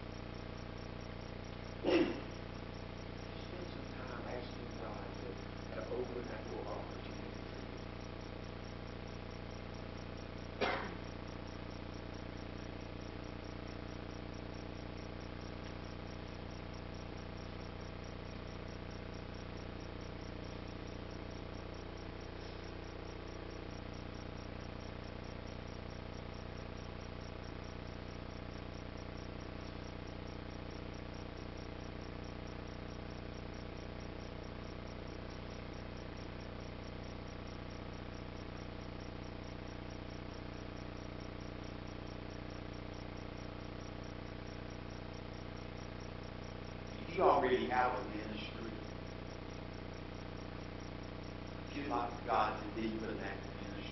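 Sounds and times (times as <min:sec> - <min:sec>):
electrical hum: 0:00.0 - 0:53.9.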